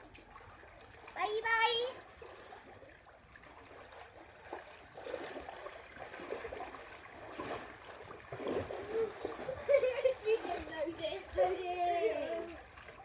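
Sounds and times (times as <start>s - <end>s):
pool water sloshing and lapping: 0.0s - 13.0s.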